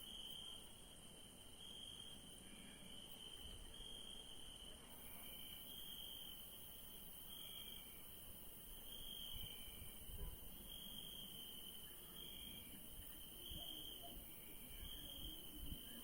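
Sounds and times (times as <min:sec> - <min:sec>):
crickets trilling: 0:00.0 - 0:16.0
lower-pitched cricket chirp: 0:00.0 - 0:16.0.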